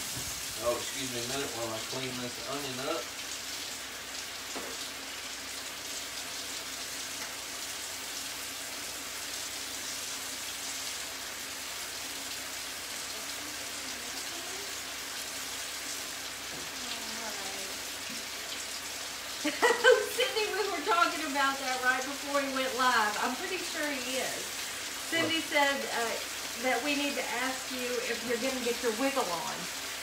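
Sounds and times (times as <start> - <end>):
bacon sizzling in a skillet: 0.0 - 30.0.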